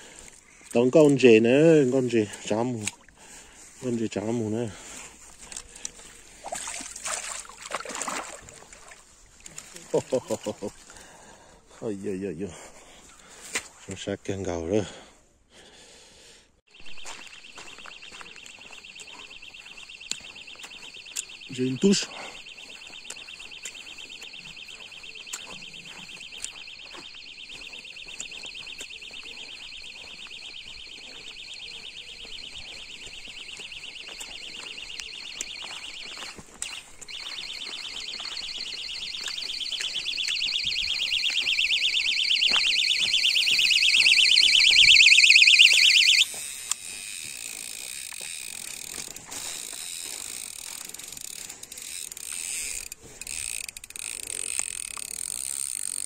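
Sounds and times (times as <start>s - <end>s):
bite alarm rapid high beeps: 0.0s - 8.4s, 9.7s - 11.1s, 16.7s - 56.0s.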